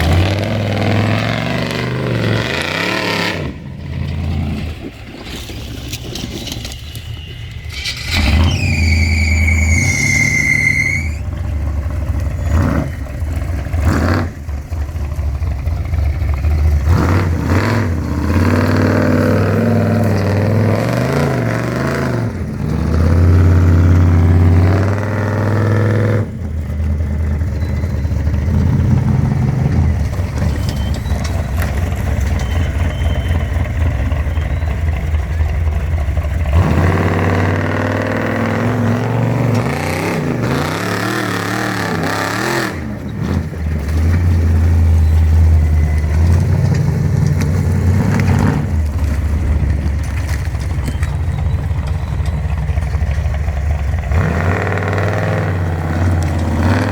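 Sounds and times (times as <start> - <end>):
off-road engine revving: 0.0 - 56.9.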